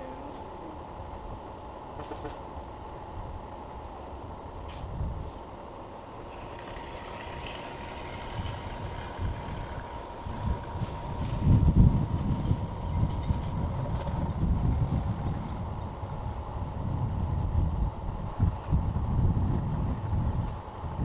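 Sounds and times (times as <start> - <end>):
engine rumble and hum: 0.0 - 21.0.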